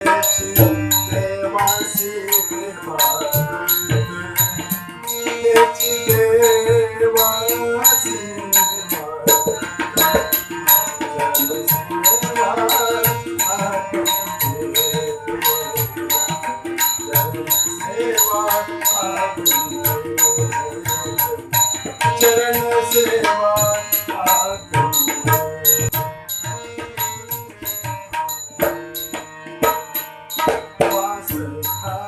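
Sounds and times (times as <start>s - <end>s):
person singing devotional song: 0.0s - 32.0s
tabla: 0.0s - 32.0s.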